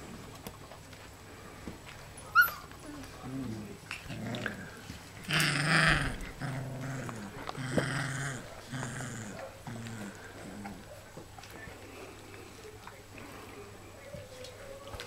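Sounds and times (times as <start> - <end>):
puppies play-growling: 0.0 - 13.5.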